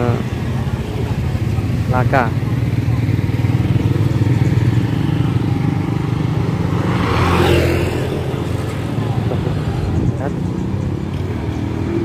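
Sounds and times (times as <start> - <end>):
motor scooter passing: 0.0 - 12.0
road traffic rumble: 0.0 - 12.0.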